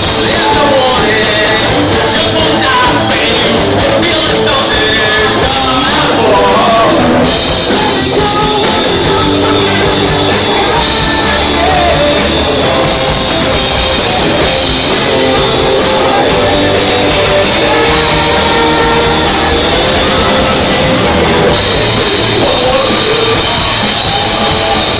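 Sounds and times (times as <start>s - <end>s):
rock band playing: 0.0s - 24.9s.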